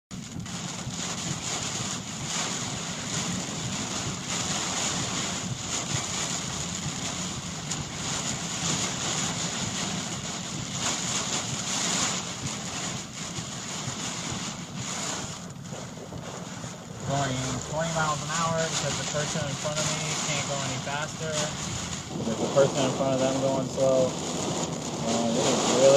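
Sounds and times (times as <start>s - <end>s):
car and tyres humming: 0.1s - 25.9s
heavy rain pounding on car: 0.1s - 25.9s.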